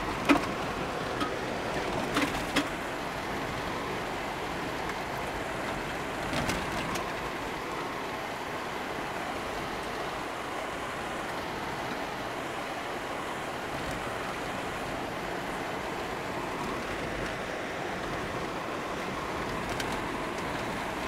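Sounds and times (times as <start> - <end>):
tyre and road noise in car: 0.0 - 21.0.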